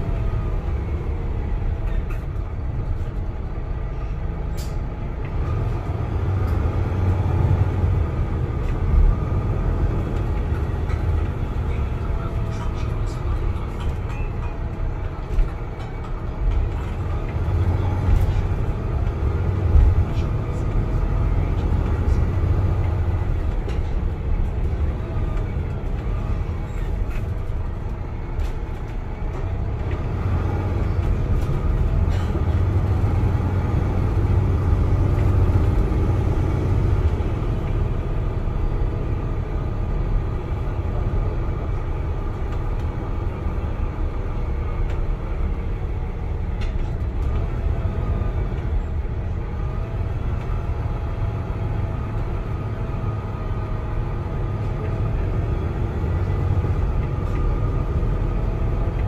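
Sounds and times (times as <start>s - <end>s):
bus diesel engine drone: 0.0s - 59.0s
road rumble: 0.0s - 59.0s.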